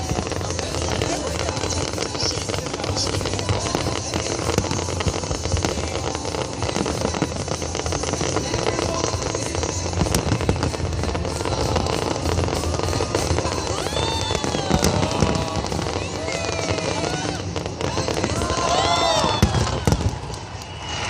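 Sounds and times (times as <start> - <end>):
deep fireworks booms: 0.0 - 21.0
fireworks crackling and popping: 0.0 - 21.0
music: 0.0 - 21.0.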